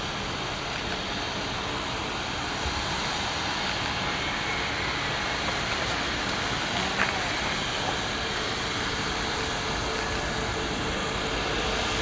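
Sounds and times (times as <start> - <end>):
jet engines at taxi power: 0.0 - 12.0.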